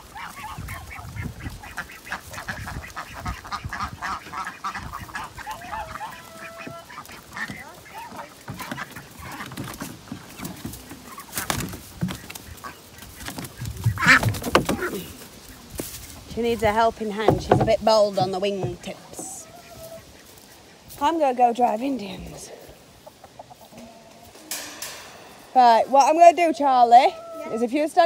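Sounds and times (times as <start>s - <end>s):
waterfowl calling: 0.0s - 21.1s, 22.0s - 28.0s
footsteps on dirt and straw: 0.0s - 28.0s.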